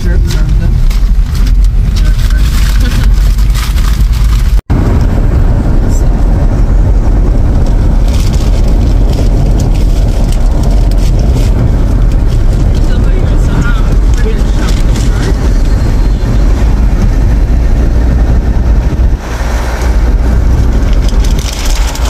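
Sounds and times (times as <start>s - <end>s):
road and wind noise in car: 0.0s - 22.0s
wind buffeting microphone: 0.0s - 22.0s.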